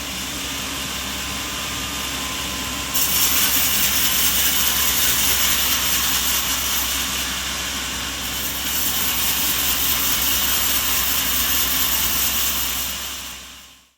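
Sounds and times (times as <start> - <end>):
sawmill machinery running: 0.0 - 13.8.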